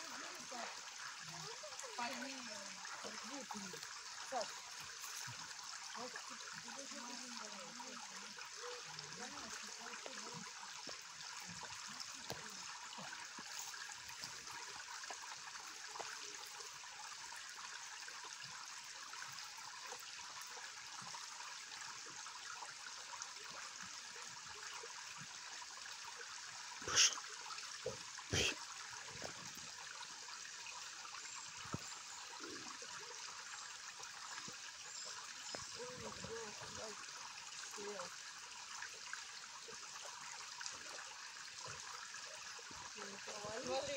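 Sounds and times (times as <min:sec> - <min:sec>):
stream trickling over stones: 0:00.0 - 0:43.9.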